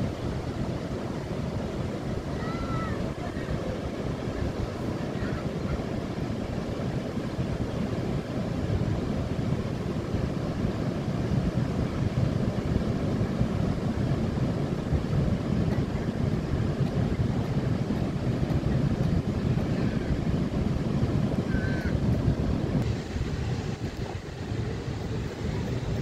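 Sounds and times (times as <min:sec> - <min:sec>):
ocean surf on rocks: 0:00.0 - 0:26.0
wind buffeting microphone: 0:00.0 - 0:26.0.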